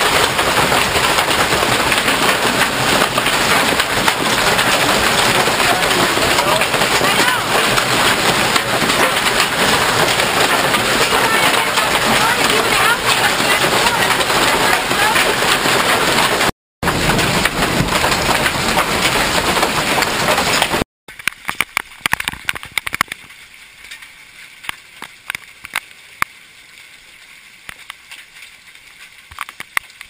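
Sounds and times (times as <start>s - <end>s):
hail pounding: 0.0s - 30.0s
scattered hail patter: 0.0s - 30.0s.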